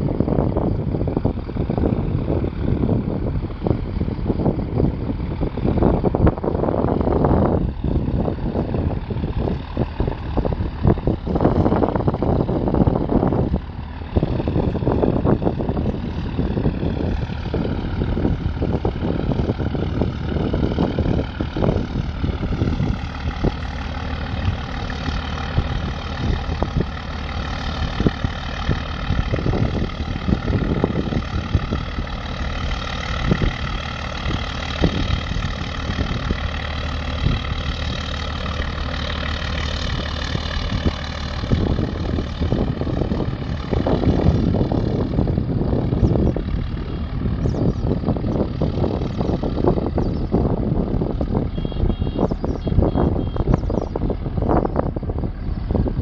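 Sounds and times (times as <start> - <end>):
boat engine running: 0.0 - 56.0
faint wavering whine: 0.0 - 56.0
low rumbling gusts: 0.0 - 56.0.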